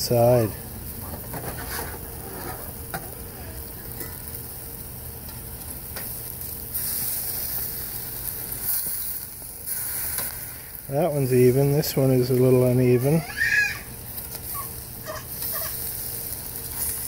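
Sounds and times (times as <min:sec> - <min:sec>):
burger patties sizzling on grill: 0:00.0 - 0:17.0.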